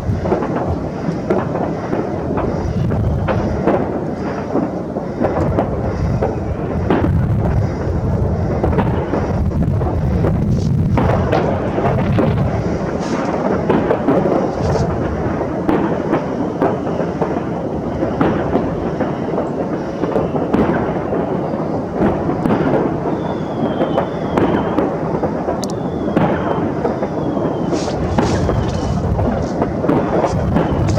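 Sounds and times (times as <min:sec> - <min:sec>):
firework falling whistles: 0:00.0 - 0:30.9
fireworks bangs and crackles: 0:00.0 - 0:30.9.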